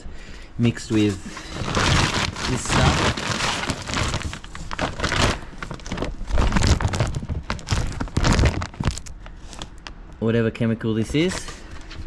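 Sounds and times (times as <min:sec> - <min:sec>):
crinkling: 0:00.7 - 0:10.2, 0:11.0 - 0:12.0.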